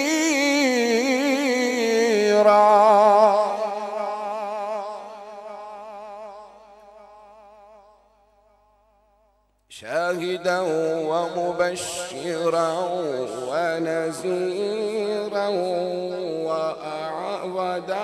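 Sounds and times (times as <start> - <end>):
man chanting with vibrato: 0.0 - 8.2, 9.7 - 18.0.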